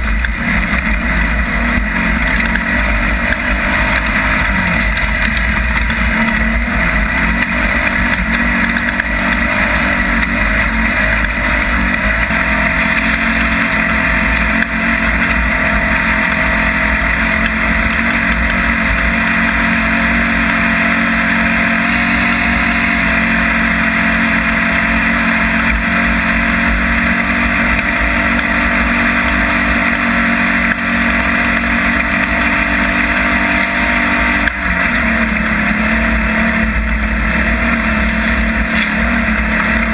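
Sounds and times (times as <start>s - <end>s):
off-road vehicle engine: 0.0s - 39.9s.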